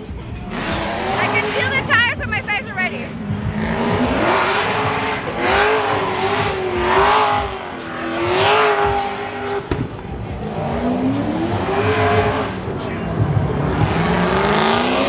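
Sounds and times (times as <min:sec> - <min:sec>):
car engine revving hard: 0:00.0 - 0:02.2, 0:03.1 - 0:15.0.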